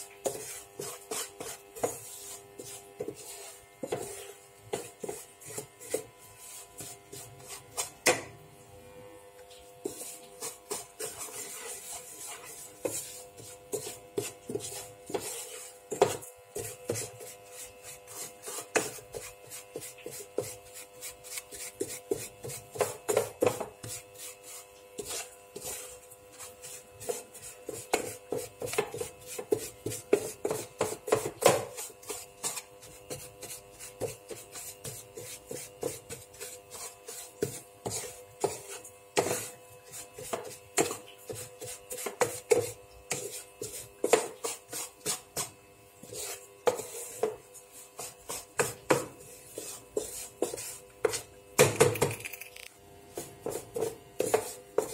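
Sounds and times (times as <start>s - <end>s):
wooden spatula scraping frying pan: 0.0s - 8.2s, 9.6s - 52.1s, 53.1s - 54.9s.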